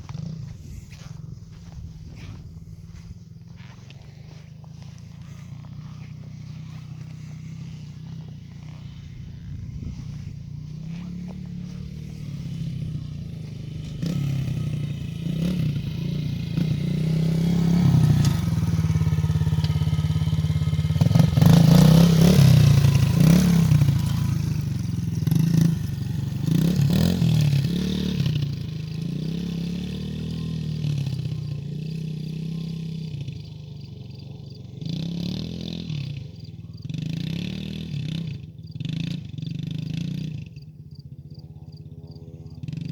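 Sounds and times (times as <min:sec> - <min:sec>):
dirt bike engine revving: 0:00.0 - 0:40.6.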